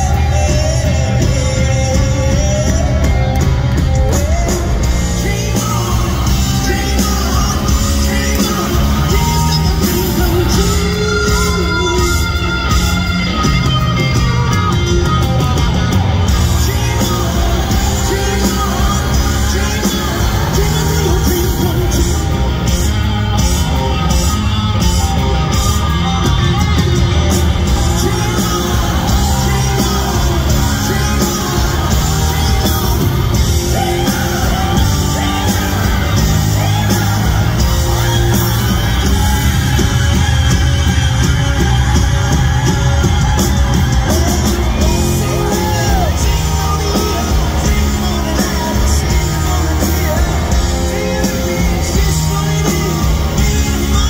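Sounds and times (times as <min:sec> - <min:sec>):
bass guitar: 0:00.0 - 0:54.0
drums: 0:00.0 - 0:54.0
electric guitar: 0:00.0 - 0:54.0
loud singing: 0:00.0 - 0:54.0
piano: 0:00.0 - 0:54.0.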